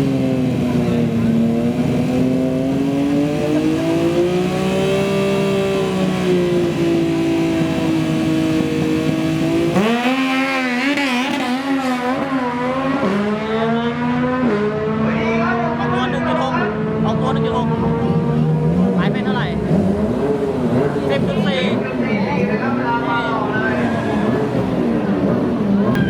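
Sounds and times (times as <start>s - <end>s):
racing motorcycle engine revving: 0.0s - 26.0s.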